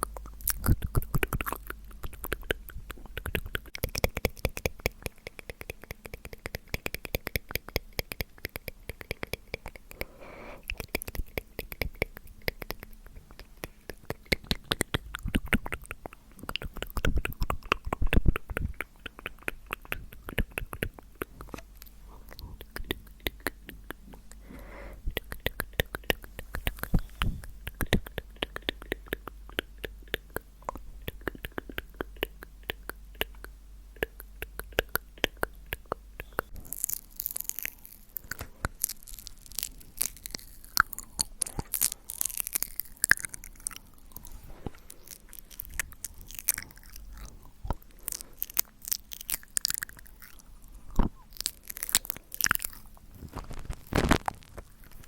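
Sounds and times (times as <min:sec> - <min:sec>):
wet lip and tongue clicks: 0:00.0 - 0:55.0.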